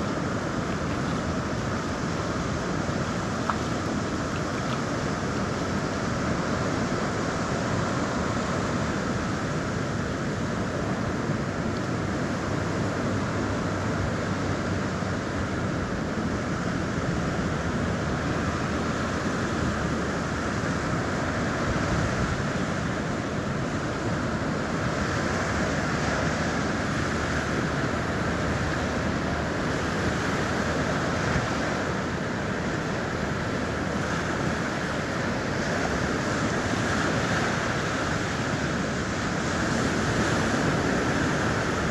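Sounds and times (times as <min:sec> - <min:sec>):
sea surf washing onto beach: 0:00.0 - 0:41.9.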